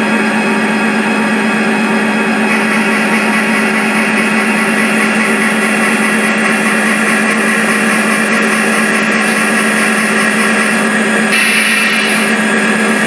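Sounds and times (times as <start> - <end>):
diesel locomotives running: 0.0 - 13.0.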